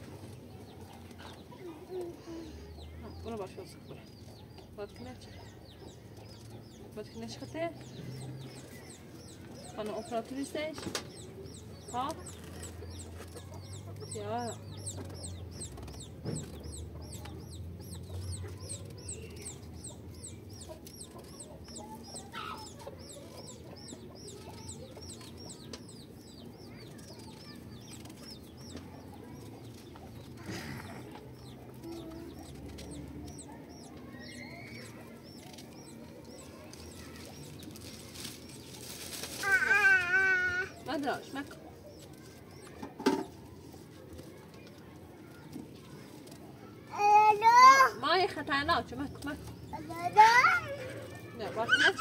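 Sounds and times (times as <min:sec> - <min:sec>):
chickens clucking and cheeping: 0:00.0 - 0:46.9, 0:47.6 - 0:52.0.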